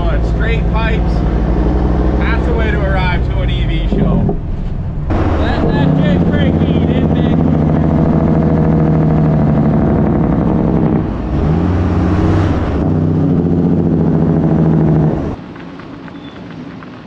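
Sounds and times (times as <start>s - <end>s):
diesel truck engine running: 0.0s - 15.4s.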